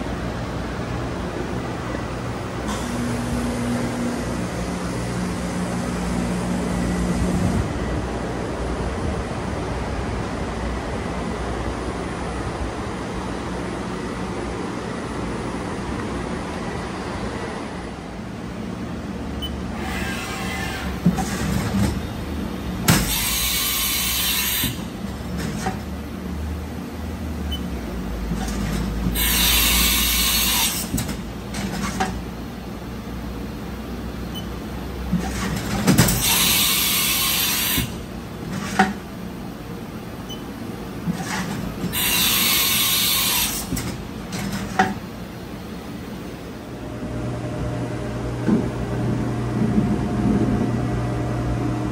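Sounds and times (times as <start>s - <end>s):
machine shop hum: 0.0s - 51.9s.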